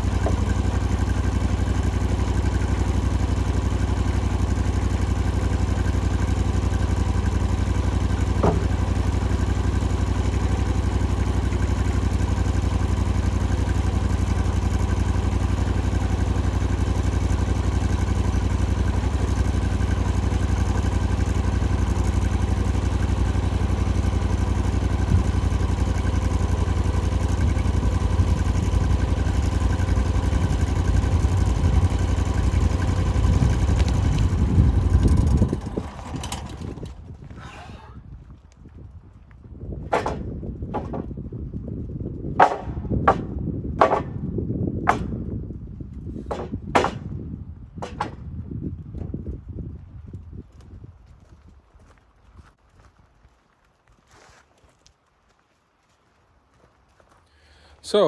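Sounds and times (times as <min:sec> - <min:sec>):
engine running steadily: 0:00.0 - 0:53.4, 0:56.7 - 0:58.0.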